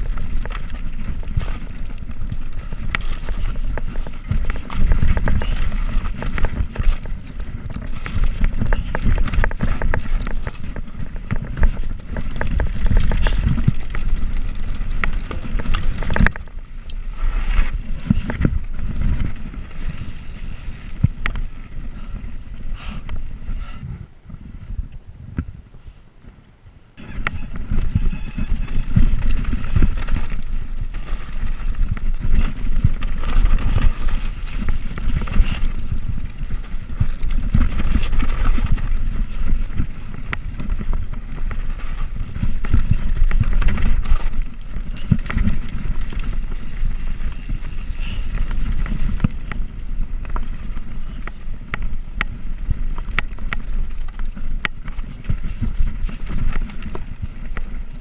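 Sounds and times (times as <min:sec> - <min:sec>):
bicycle clicks and rattles: 0:00.0 - 0:23.8, 0:27.0 - 0:58.0
steady rumble: 0:00.0 - 0:58.0
wind buffeting microphone: 0:00.0 - 0:58.0.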